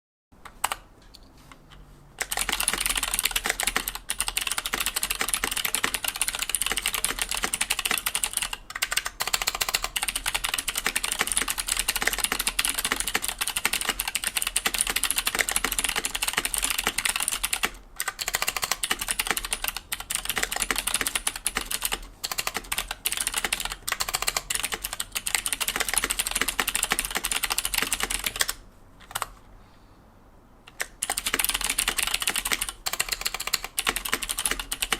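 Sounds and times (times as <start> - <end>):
fast mechanical keyboard typing: 2.2 - 29.3, 30.7 - 34.9.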